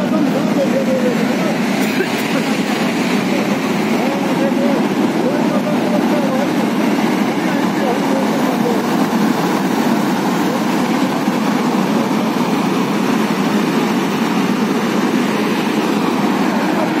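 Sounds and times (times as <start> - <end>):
flash flood roaring: 0.0 - 17.0.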